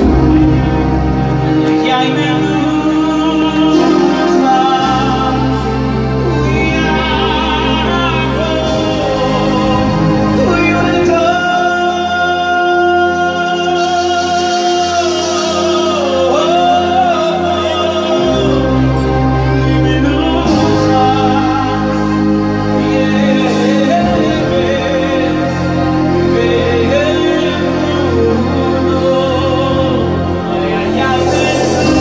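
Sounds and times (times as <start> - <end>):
man singing slow held notes: 0.0 - 32.0.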